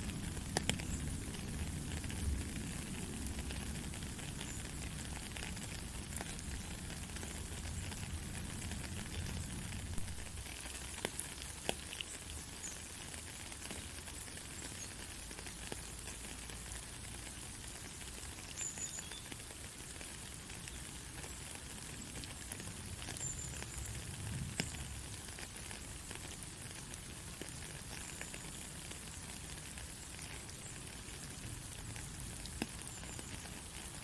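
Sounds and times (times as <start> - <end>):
heavy rain: 0.0 - 34.0
raindrop ticks: 0.0 - 34.0.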